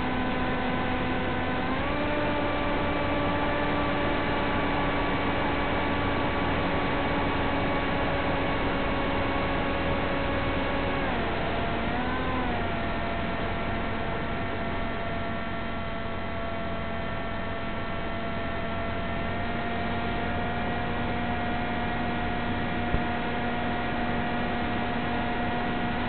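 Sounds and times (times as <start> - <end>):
electric motor and propeller whine: 0.0 - 26.0.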